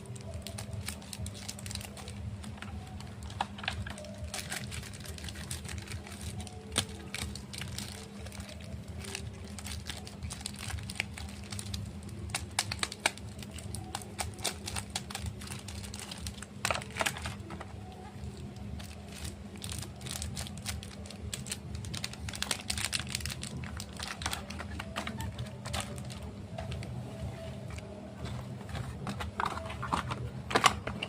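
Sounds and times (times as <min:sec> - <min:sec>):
wrappers crinkling: 0:00.0 - 0:27.0
steady low hum: 0:00.0 - 0:31.0.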